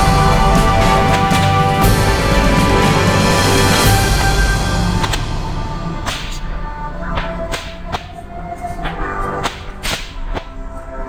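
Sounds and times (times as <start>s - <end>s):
fireworks cracking: 0.0s - 11.0s
music playing: 0.0s - 11.0s.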